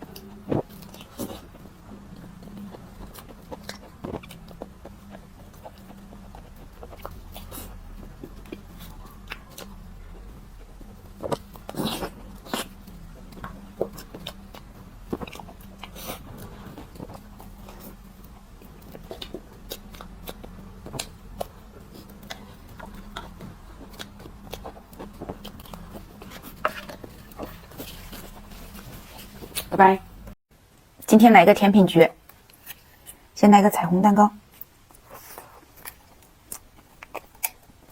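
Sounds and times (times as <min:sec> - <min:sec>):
person chewing: 0:00.0 - 0:29.8, 0:34.5 - 0:37.9
steady low hum: 0:00.0 - 0:31.2.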